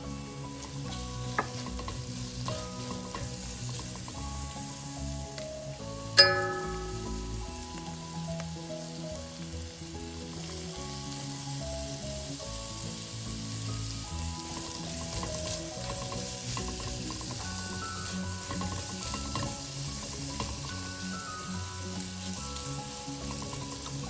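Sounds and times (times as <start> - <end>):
soft background music: 0.0 - 24.0
vegetables sizzling in a pan: 0.0 - 24.0.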